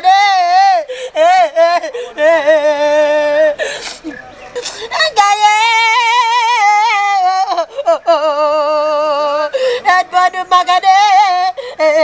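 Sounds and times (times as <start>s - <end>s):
woman singing a wavering lament: 0.0s - 3.8s, 4.8s - 12.0s.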